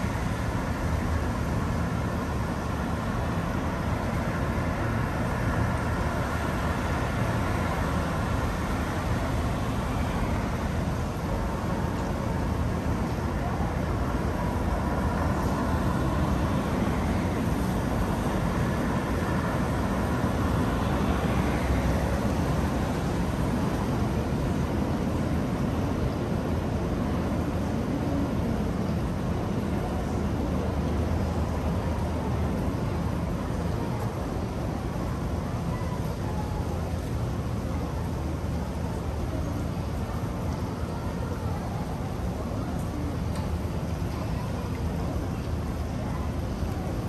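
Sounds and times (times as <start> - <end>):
traffic rumble: 0.0 - 47.0.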